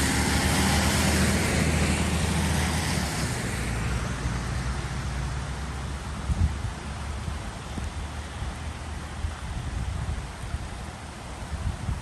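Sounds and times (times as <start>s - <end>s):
flooded creek rushing: 0.0s - 12.0s.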